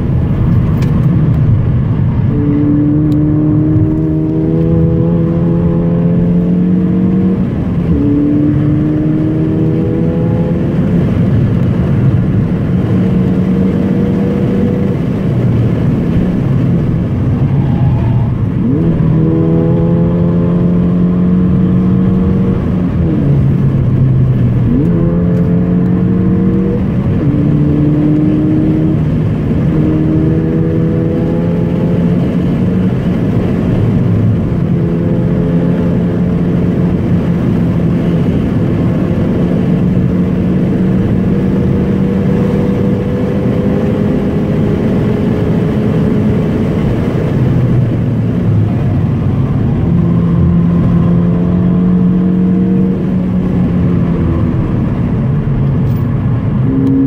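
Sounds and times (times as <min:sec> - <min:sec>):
car engine accelerating: 0:00.0 - 0:57.0
tyre and road noise: 0:00.0 - 0:57.0.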